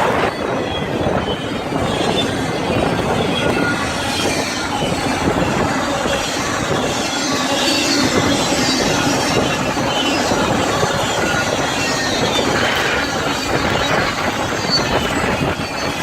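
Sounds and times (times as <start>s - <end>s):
high-pitched wheel squeals: 0.0s - 16.0s
train wheels rumbling on rail: 0.0s - 16.0s.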